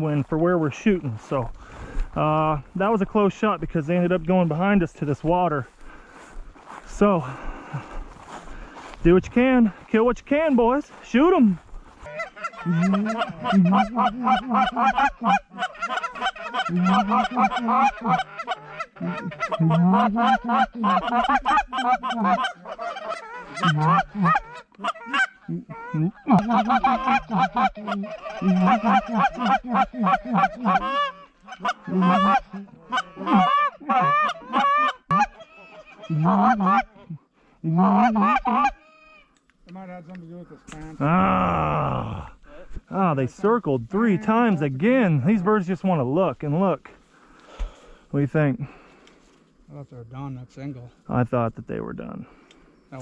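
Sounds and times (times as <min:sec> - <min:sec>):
geese honking and clucking: 0:00.0 - 0:39.4, 0:40.2 - 0:49.3.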